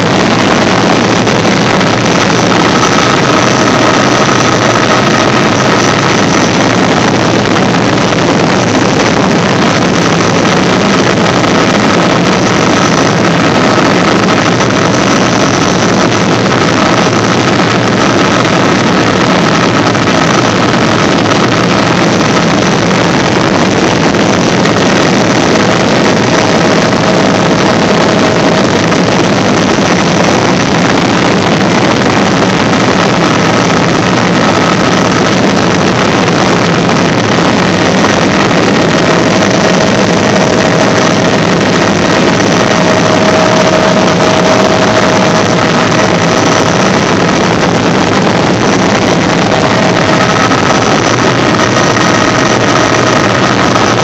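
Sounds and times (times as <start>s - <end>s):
helicopter turbine and rotor noise: 0.0s - 54.0s.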